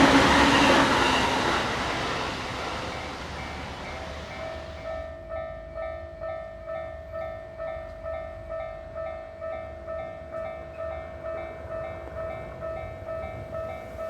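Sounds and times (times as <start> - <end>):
level crossing warning bell ringing: 0.0 - 14.0.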